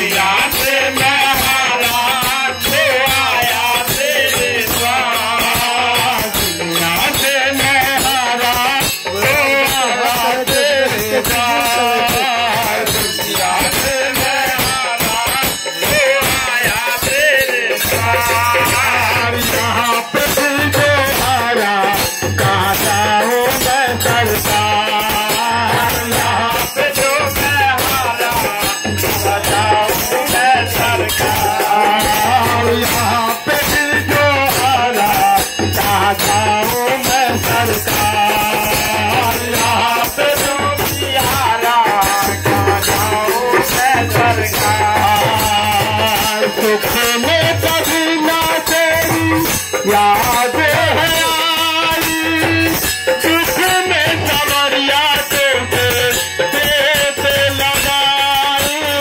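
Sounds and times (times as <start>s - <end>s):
dholak drum beat: 0.0s - 59.0s
rattling jingle of hand percussion: 0.0s - 59.0s.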